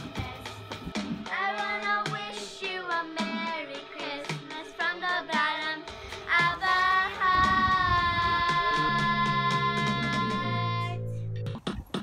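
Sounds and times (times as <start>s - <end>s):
child singing: 0.0s - 0.6s, 1.3s - 11.2s
music: 0.0s - 12.0s.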